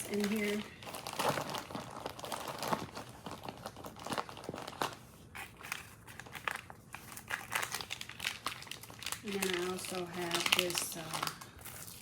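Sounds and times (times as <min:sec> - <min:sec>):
packets rustling and crinkling: 0:00.0 - 0:12.0.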